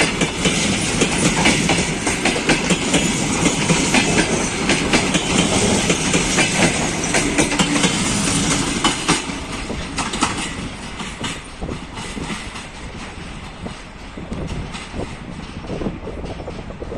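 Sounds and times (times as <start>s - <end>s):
train rolling past: 0.0s - 16.9s
wheels clicking over rail joints: 0.0s - 16.9s.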